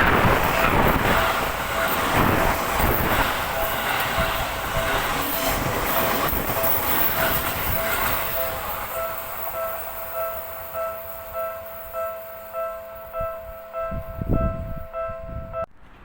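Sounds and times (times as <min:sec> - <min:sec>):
train wheels rumbling on rails: 0:00.0 - 0:16.0
level-crossing bell ringing: 0:00.2 - 0:15.7.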